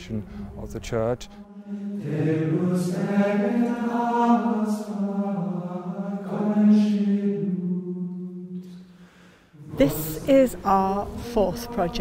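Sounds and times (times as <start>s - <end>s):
slow sung chant: 1.2s - 12.0s.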